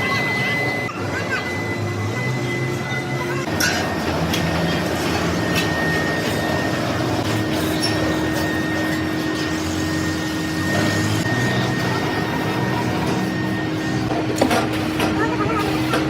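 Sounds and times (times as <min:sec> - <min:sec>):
steady high tone: 0:00.0 - 0:16.0
machine tool running: 0:01.5 - 0:16.0.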